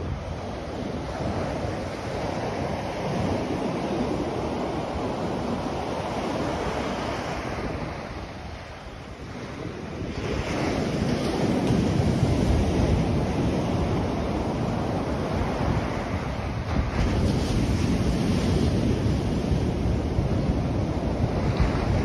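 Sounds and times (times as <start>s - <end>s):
ocean waves breaking on beach: 0.0s - 22.0s.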